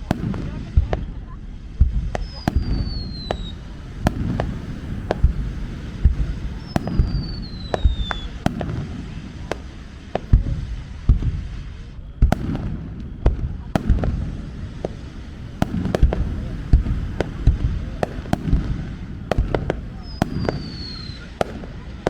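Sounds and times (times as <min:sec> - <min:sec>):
low rumble: 0:00.0 - 0:20.0
falling firework whistle: 0:00.0 - 0:22.0
fireworks bangs: 0:00.0 - 0:22.0.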